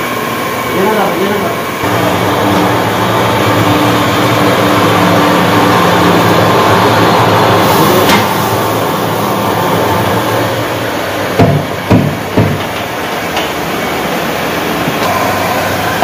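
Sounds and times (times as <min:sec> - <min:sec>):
rice mill machine drone: 0:00.0 - 0:16.0.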